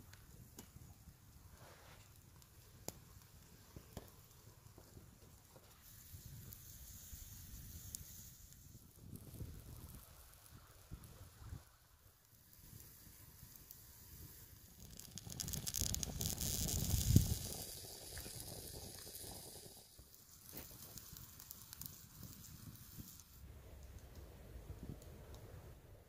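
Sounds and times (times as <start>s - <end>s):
hissing sizzle: 0.0s - 25.7s.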